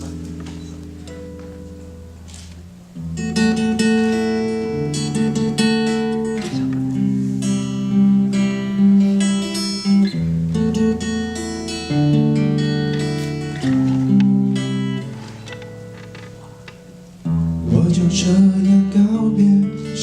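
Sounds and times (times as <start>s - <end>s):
acoustic guitar chords: 0.0s - 20.0s.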